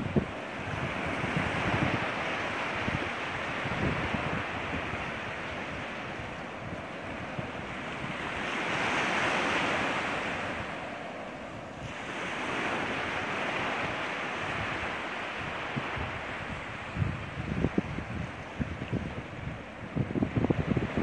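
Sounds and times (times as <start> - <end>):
small waves washing up beach: 0.0 - 21.0
wind rumbling on microphone: 0.0 - 21.0.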